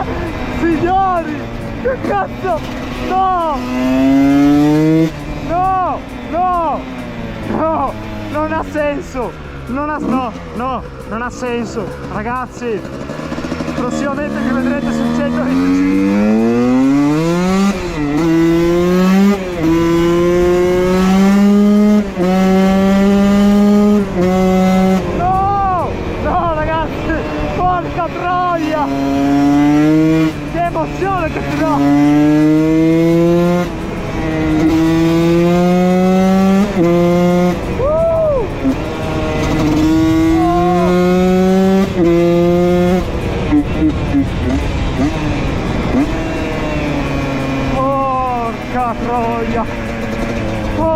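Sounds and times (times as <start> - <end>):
two-stroke engine revving high: 0.0 - 50.9.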